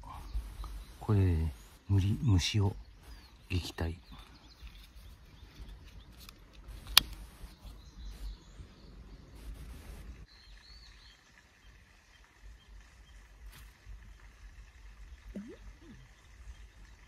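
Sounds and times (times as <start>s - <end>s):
faint bird chirps: 0.0s - 6.2s, 7.2s - 13.3s, 15.0s - 17.0s.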